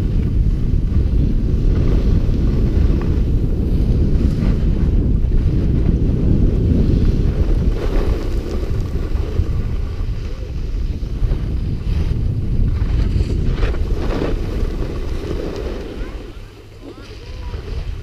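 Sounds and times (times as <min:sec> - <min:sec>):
skis scraping on snow: 0:00.0 - 0:18.0
wind buffeting microphone: 0:00.0 - 0:18.0.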